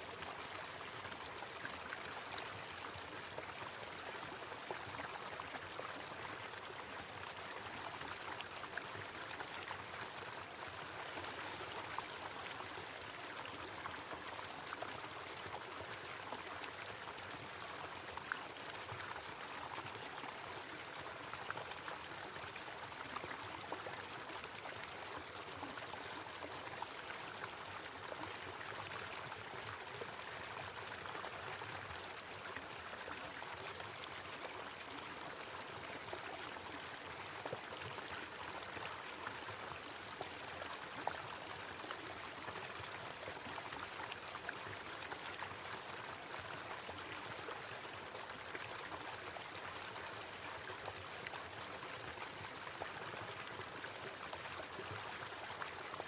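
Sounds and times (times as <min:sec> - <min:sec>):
small waterfall over rocks: 0:00.0 - 0:56.0.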